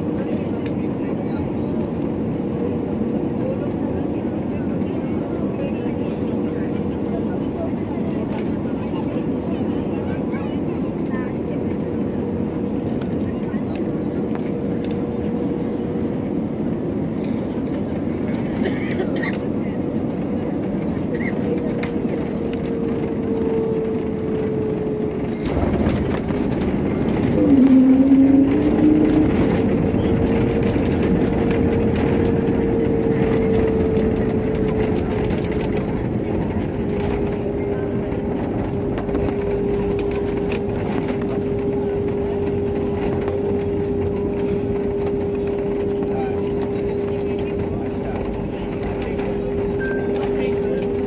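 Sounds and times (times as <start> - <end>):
jet engines and airflow rushing: 0.0 - 51.0.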